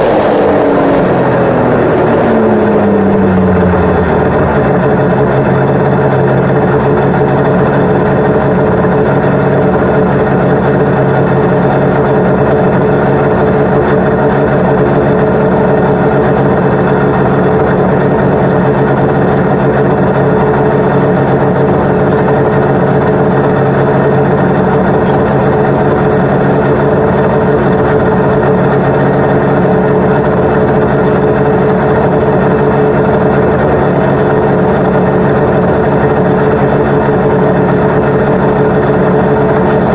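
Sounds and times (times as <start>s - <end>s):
snowmobile engine idling: 0.0s - 39.9s.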